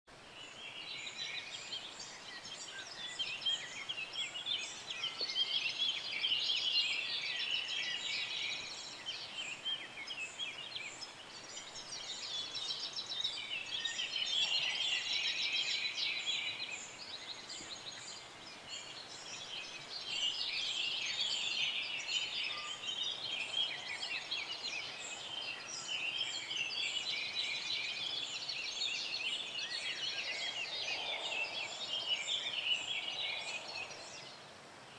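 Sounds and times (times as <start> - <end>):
birds chirping and trilling: 0.8 - 34.3.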